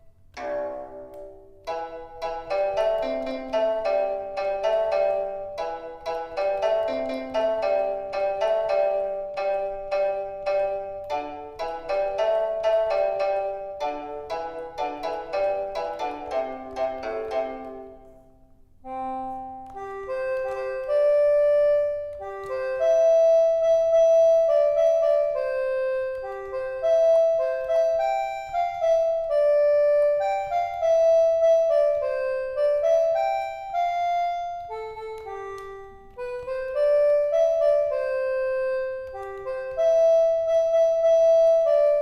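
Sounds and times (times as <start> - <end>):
keyboard melody: 0.0 - 42.0.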